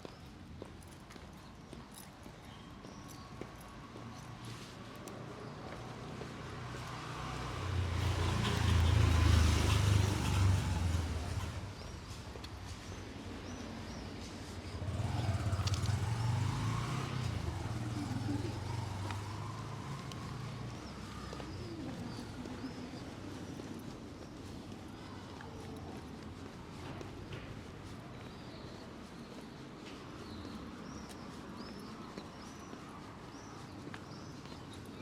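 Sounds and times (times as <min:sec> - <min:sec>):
small birds chirping: 0:00.0 - 0:35.0
vehicle engines passing: 0:03.1 - 0:34.9.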